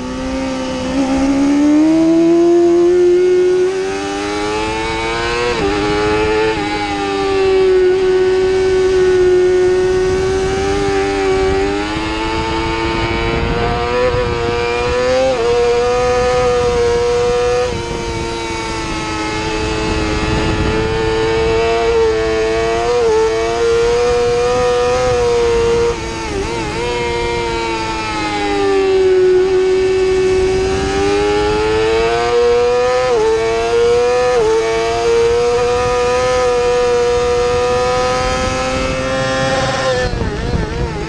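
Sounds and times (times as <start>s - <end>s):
motorcycle engine at high revs: 0.0s - 41.0s
wind rushing: 0.0s - 41.0s.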